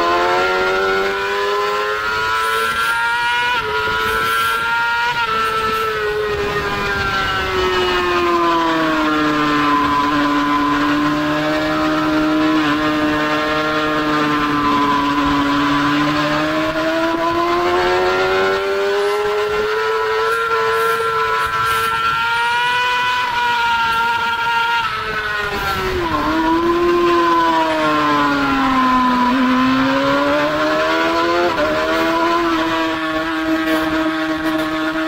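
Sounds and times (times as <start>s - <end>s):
motorcycle engine at high revs: 0.0s - 35.0s.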